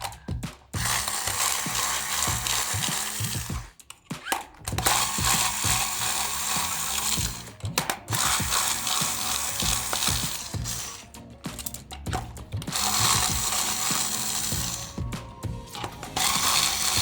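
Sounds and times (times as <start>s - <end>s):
small motor whirring and rattling: 0.0s - 17.0s.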